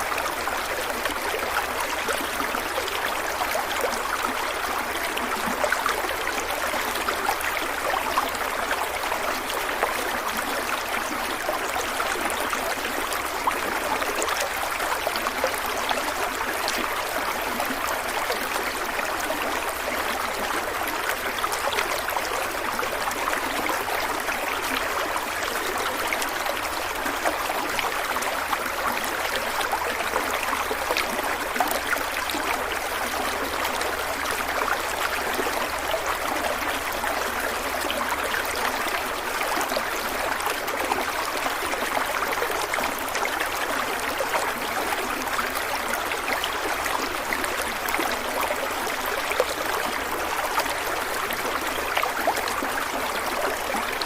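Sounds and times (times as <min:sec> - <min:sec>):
stream water flowing and gurgling: 0:00.0 - 0:54.0.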